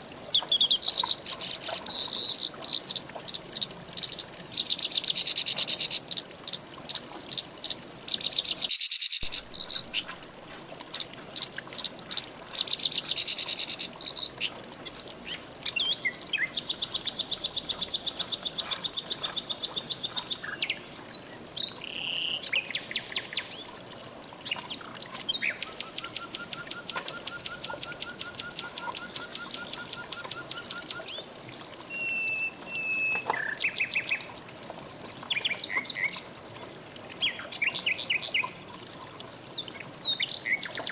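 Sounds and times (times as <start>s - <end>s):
songbirds singing: 0.0s - 23.8s, 24.4s - 31.3s, 31.9s - 38.8s, 39.5s - 40.9s.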